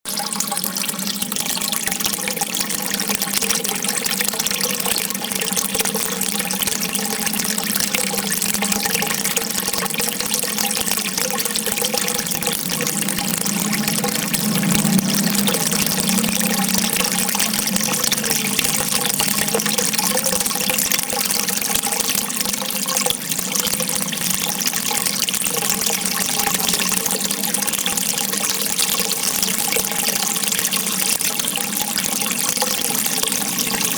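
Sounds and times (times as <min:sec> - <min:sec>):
water rushing and splashing: 0:01.8 - 0:33.9.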